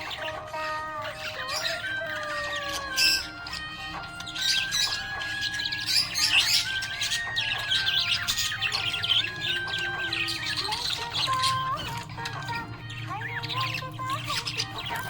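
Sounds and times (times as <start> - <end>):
budgerigar chattering and chirping: 0.0 - 15.0.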